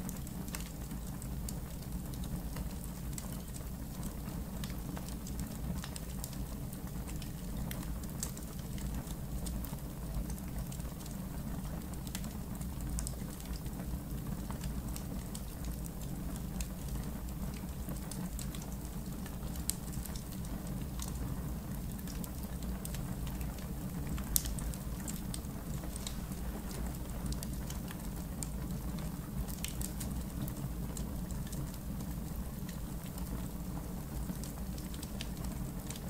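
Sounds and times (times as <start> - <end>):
low fire rumble: 0.0 - 36.0
wood fire crackling: 0.0 - 36.0.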